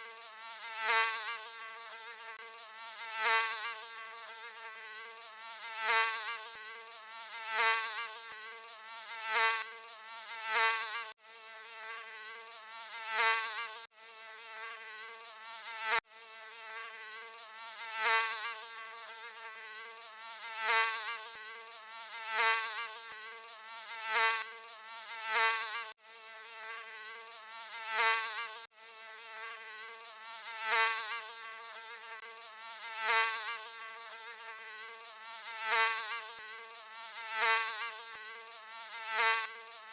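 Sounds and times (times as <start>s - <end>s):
mosquito buzzing: 0.0s - 39.9s.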